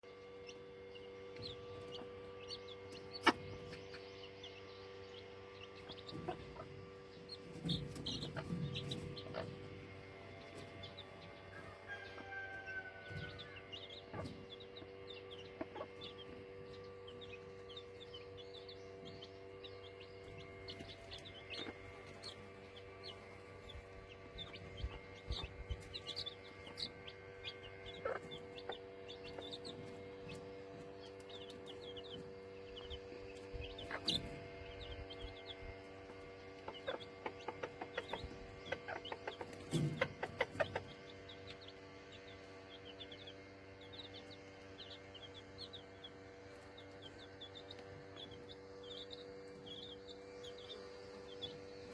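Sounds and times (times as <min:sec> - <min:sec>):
chicks peeping: 0:00.0 - 0:51.9
hen clucking: 0:00.4 - 0:51.9.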